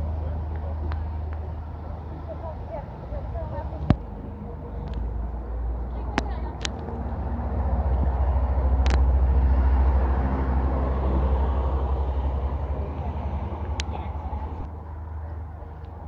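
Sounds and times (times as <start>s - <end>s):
passing vehicle engine rumble: 0.0s - 16.0s.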